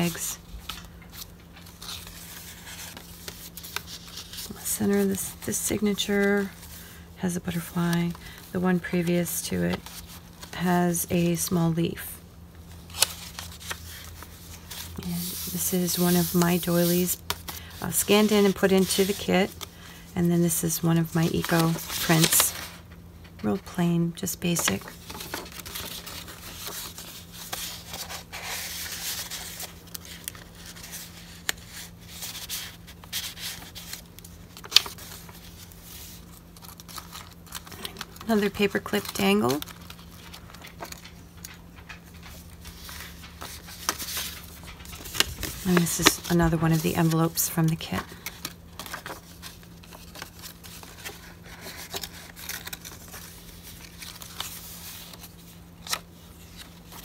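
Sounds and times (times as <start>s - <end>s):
paper rustling and sliding: 0.0s - 6.9s, 12.8s - 19.6s, 21.2s - 22.8s, 24.4s - 57.0s.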